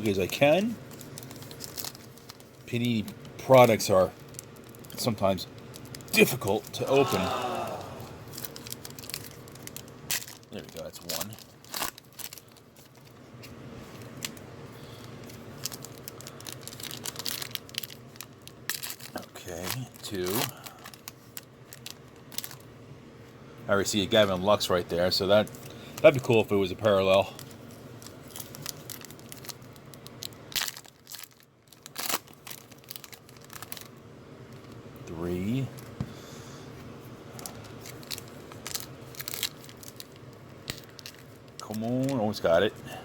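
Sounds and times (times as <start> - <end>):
foil card packs crinkling: 0.0 - 13.2, 13.8 - 22.7, 24.0 - 35.9, 37.4 - 42.8
low room hum: 0.0 - 43.0.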